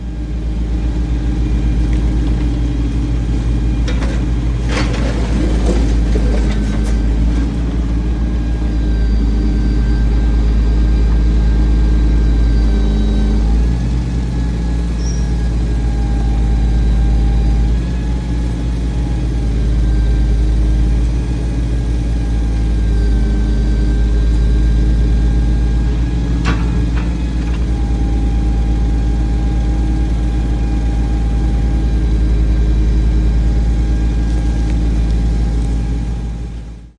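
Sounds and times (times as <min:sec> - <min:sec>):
heavy engine running: 0:00.0 - 0:36.9.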